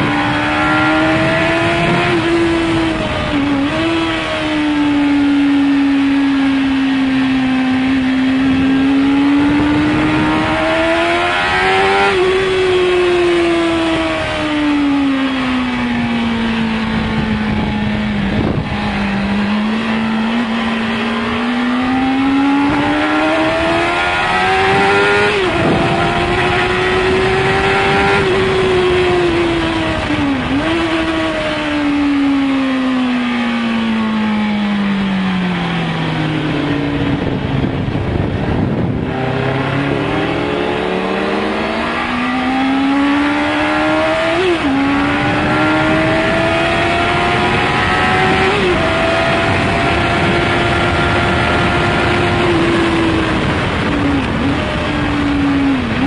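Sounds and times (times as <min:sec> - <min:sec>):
motorcycle engine at high revs: 0:00.0 - 0:56.0
wind rush: 0:00.0 - 0:56.0.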